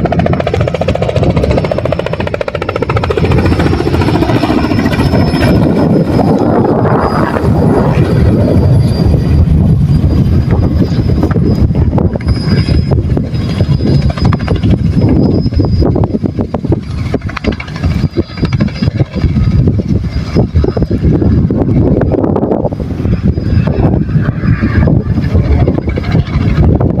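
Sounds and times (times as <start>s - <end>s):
helicopter rotor noise: 0.0s - 27.0s
high whine: 0.0s - 27.0s
wind buffeting microphone: 0.0s - 27.0s.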